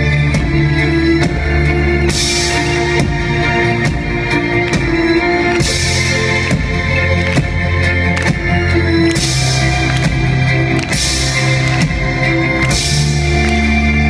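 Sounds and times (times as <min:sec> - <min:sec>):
drum kit: 0:00.0 - 0:14.0
keyboard: 0:00.0 - 0:14.0.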